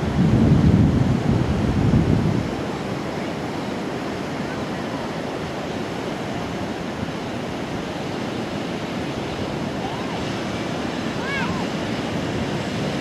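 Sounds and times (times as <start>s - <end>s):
surf breaking on a beach: 0.0s - 13.0s.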